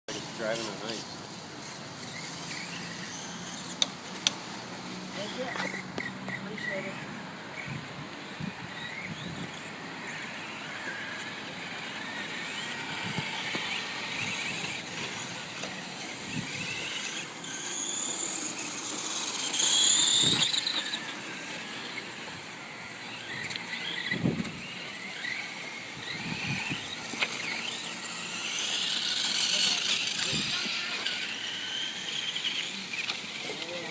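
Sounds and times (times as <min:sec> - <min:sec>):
electric motor whine: 0:00.1 - 0:33.9.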